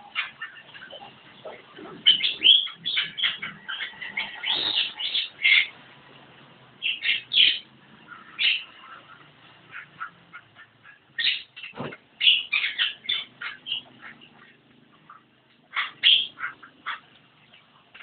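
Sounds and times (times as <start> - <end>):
myna chattering and whistling: 0.0 - 5.7, 6.8 - 17.1.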